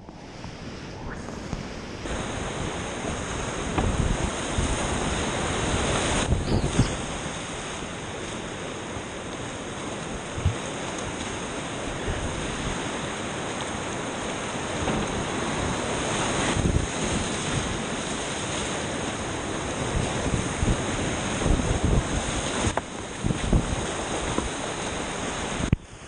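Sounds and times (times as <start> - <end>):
water splashing: 0.0 - 25.8
whitewater rapids roaring: 0.0 - 25.8.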